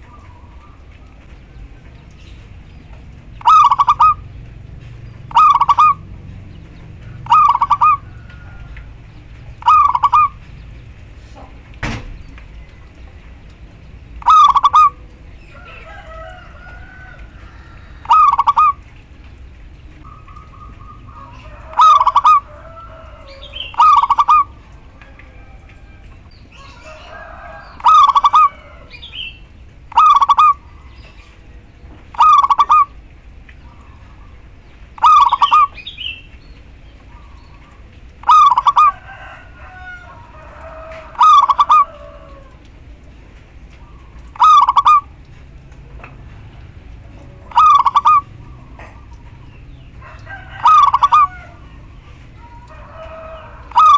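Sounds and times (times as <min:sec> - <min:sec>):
dove calling: 0:00.0 - 0:42.7, 0:43.6 - 0:53.9
other birds chirping: 0:00.0 - 0:42.7, 0:43.6 - 0:46.2, 0:47.0 - 0:53.9.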